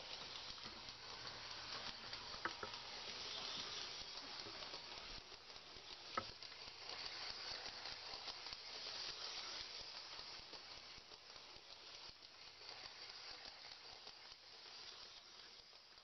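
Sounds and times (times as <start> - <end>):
model train rolling clatter: 0.0 - 16.0.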